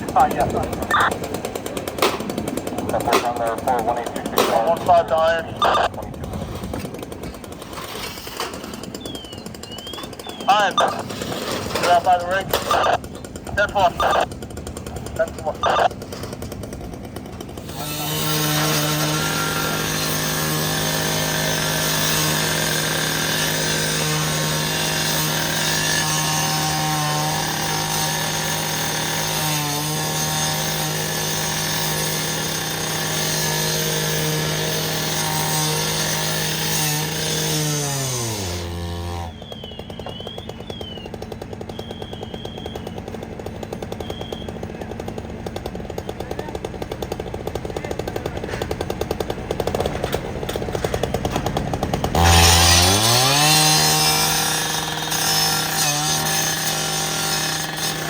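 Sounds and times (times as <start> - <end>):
power saw running: 0.0 - 58.0.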